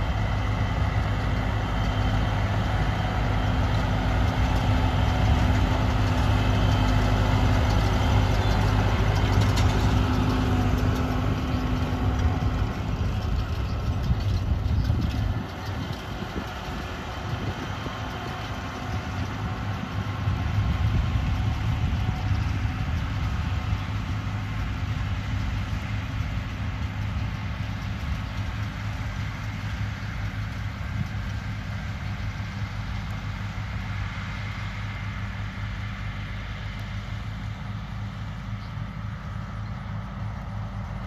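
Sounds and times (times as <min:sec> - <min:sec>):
diesel tractor running: 0:00.0 - 0:41.0.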